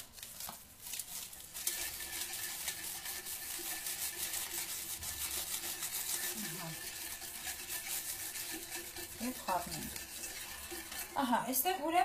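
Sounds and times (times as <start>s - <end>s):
utensil scraping metal pot: 1.0s - 12.0s.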